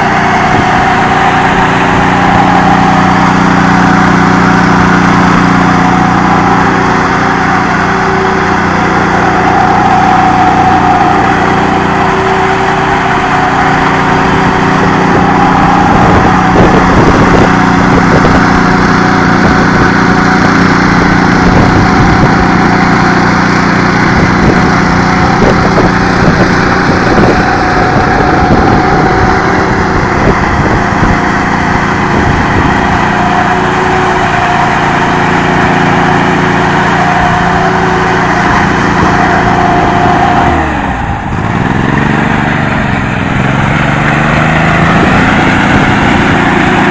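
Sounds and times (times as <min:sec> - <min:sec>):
power trowel engine running: 0:00.0 - 0:46.9.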